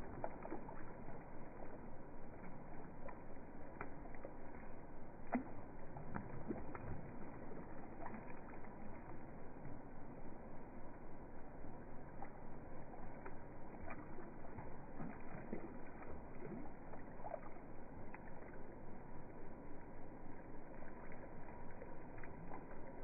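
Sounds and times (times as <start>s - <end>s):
slowed-down water wash: 0.0s - 23.0s.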